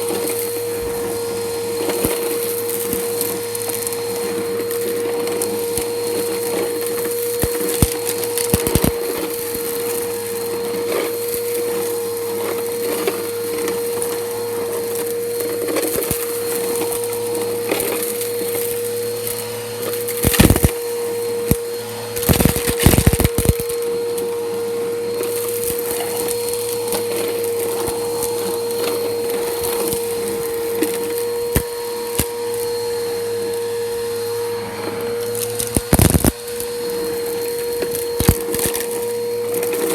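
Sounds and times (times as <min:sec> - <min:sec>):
grit crunching in vacuum: 0:00.0 - 0:39.9
vacuum motor whine: 0:00.0 - 0:39.9.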